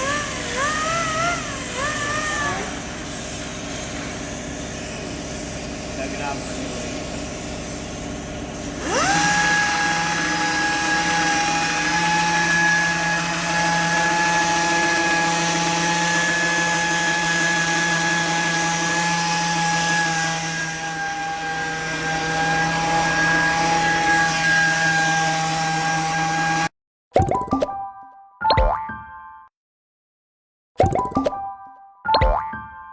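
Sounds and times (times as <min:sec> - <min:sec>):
power tool motor whine: 0:00.0 - 0:26.7.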